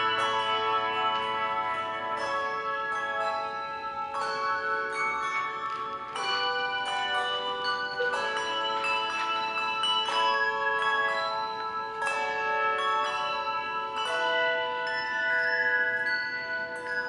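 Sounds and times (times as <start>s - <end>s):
handbells ringing chords: 0.0s - 17.0s.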